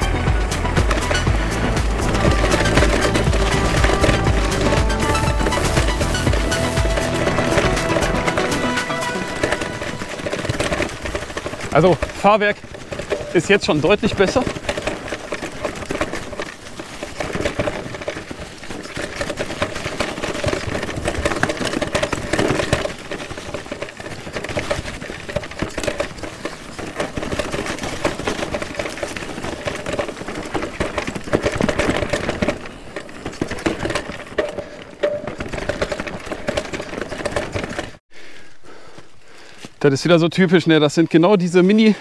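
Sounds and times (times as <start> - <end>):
bike chain rattling: 0.0 - 39.8
tyres rumbling over dirt: 0.0 - 42.0.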